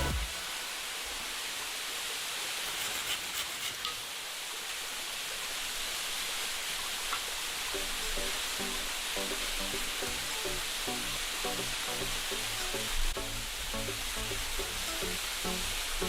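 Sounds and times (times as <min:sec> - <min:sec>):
waterfall rushing: 0:00.0 - 0:02.2, 0:04.9 - 0:16.0.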